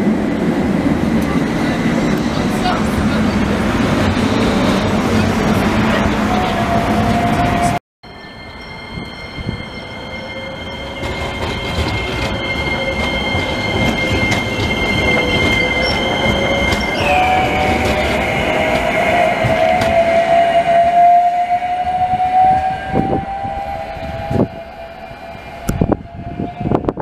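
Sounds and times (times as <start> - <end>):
tram rumble: 0.0 - 27.0
tram wheels squealing: 1.2 - 27.0.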